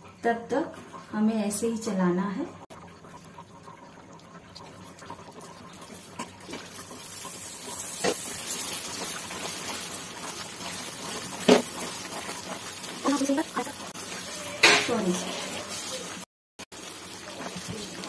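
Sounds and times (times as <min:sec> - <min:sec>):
syrup sizzling and bubbling: 0:00.0 - 0:18.0.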